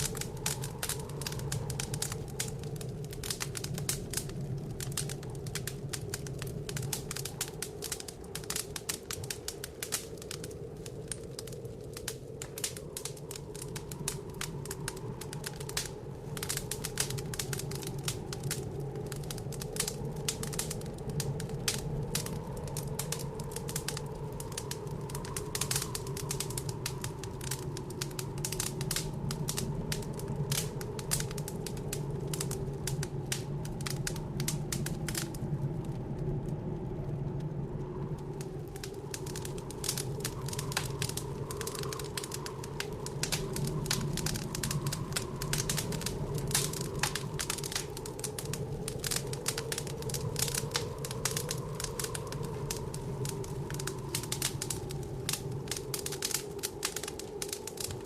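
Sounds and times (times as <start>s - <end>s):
blizzard wind howling: 0.0s - 58.0s
wood fire crackling: 0.0s - 58.0s.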